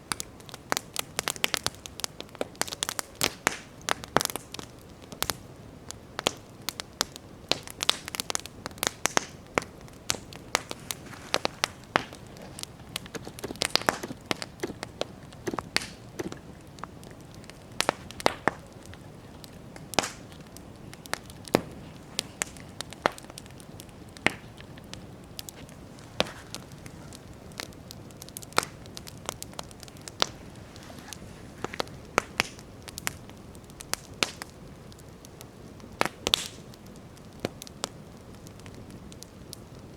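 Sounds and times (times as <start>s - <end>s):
campfire crackling and popping: 0.0s - 39.9s
low hiss of burning: 0.0s - 39.9s.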